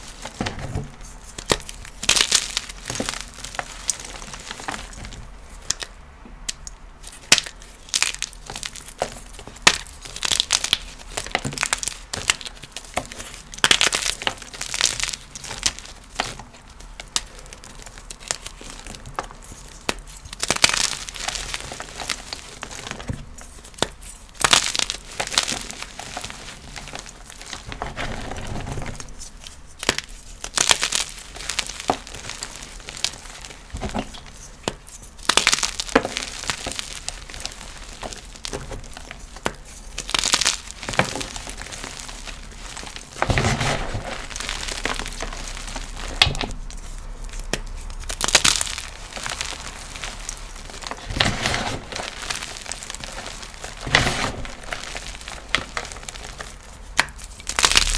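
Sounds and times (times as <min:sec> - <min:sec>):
chalk crunching and crackling: 0:00.0 - 0:57.9.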